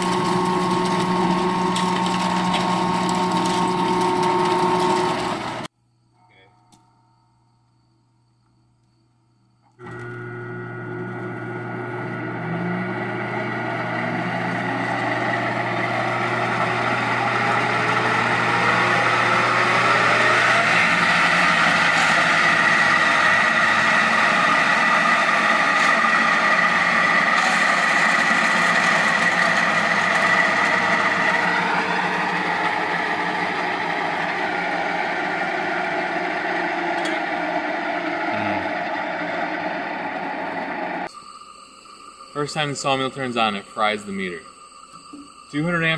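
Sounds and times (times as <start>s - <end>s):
electric sawmill whining: 0.0s - 5.7s, 9.7s - 41.1s.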